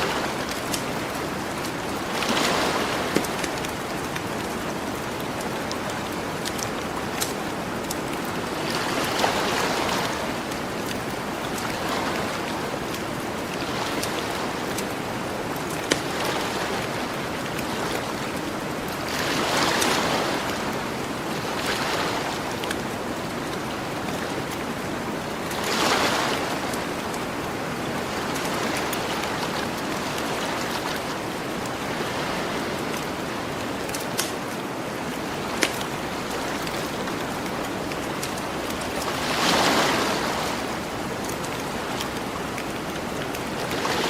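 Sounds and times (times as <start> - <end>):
ocean waves washing ashore: 0.0 - 44.0.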